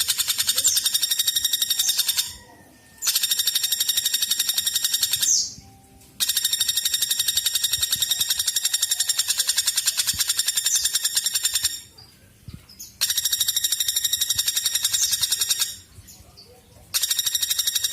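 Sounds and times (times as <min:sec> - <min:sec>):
woodpecker rattling call: 0:00.0 - 0:05.6, 0:06.2 - 0:12.0, 0:12.8 - 0:16.2, 0:16.8 - 0:17.9.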